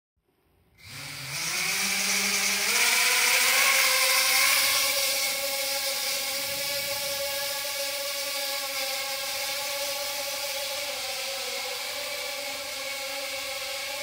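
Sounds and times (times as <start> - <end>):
drone motors whining: 0.8 - 14.0.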